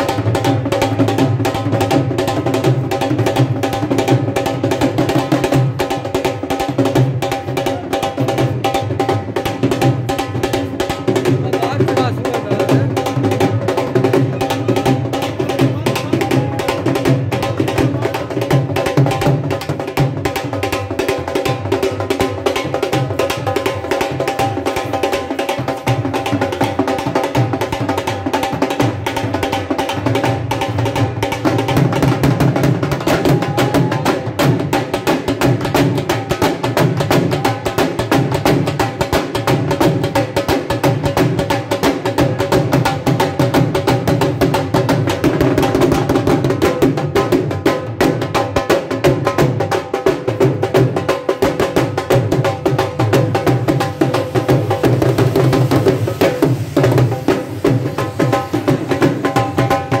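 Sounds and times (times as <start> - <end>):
drum beaten in fast rhythm: 0.0 - 60.0.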